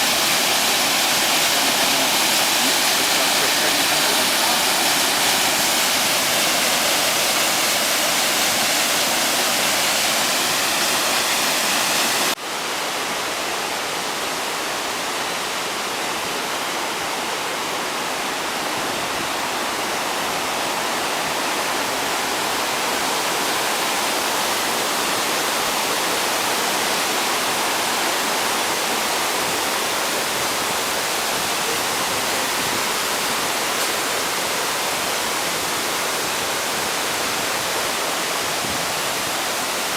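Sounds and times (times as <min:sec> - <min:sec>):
waterfall rushing over rock: 0:00.0 - 0:39.9.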